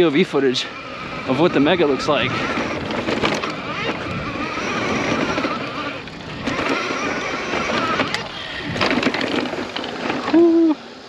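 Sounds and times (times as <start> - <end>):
electric motor whine: 0.0 - 11.0
wind and tyres rushing: 0.0 - 11.0.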